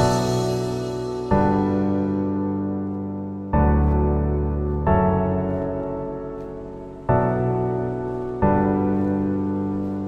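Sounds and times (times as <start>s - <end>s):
slow sustained music chords: 0.0s - 10.0s.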